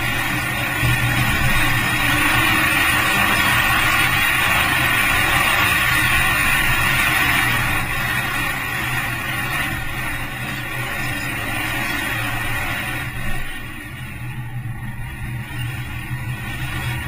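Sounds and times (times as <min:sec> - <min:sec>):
car engine running at speed: 0:00.0 - 0:17.0
road noise: 0:00.0 - 0:17.0.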